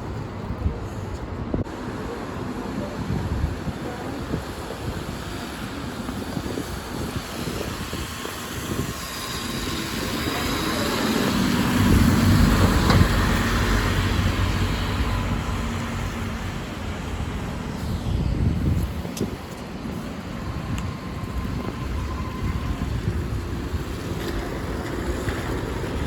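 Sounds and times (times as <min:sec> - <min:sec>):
bus driving past: 0:00.0 - 0:26.0.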